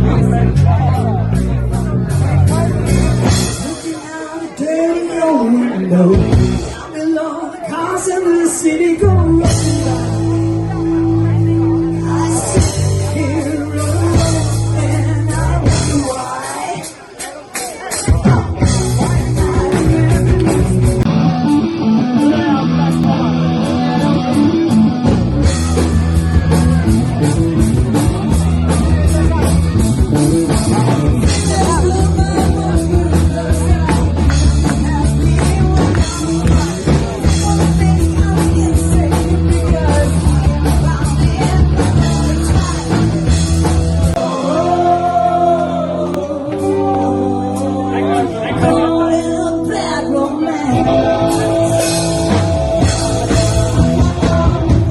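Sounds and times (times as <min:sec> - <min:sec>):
bass: 0:00.0 - 0:54.9
drums: 0:00.0 - 0:54.9
electric guitar: 0:00.0 - 0:54.9
person singing: 0:02.3 - 0:54.9.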